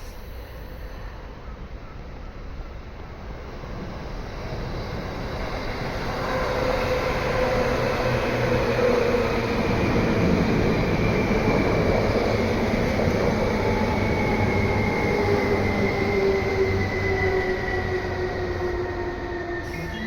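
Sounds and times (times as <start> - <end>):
electric train passing: 0.0 - 20.0
train whine: 0.0 - 20.0.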